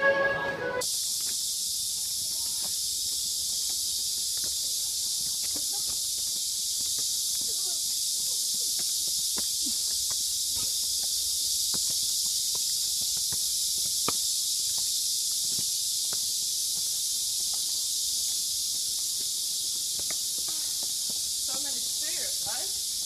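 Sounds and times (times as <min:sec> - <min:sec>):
cicada chorus drone: 0:00.0 - 0:23.0
footsteps on stone paving: 0:00.0 - 0:23.0.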